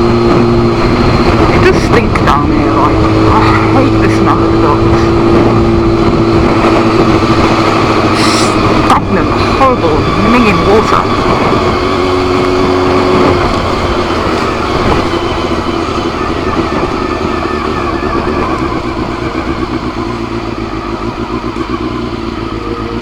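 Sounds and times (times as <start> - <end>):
motorcycle engine at low speed: 0.0 - 23.0
steady rushing noise: 0.0 - 23.0.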